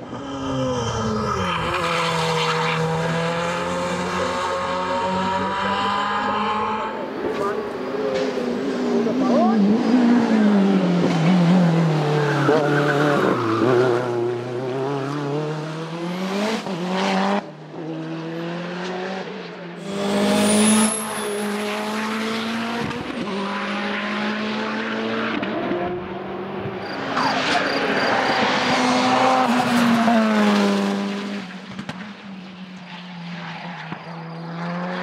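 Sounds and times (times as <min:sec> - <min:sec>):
racing car engines shifting gears: 0:01.8 - 0:32.2.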